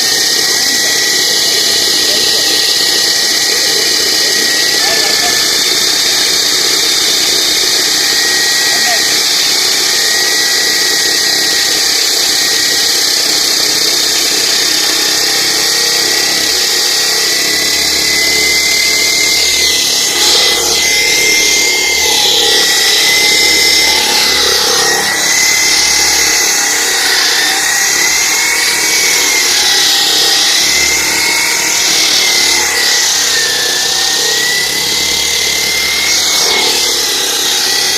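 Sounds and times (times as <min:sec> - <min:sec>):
power saw cutting concrete: 0:00.0 - 0:37.9.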